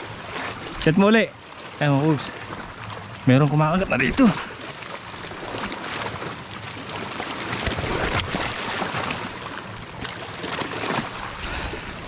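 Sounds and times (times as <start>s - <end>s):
sea water washing and sloshing: 0.0s - 12.0s.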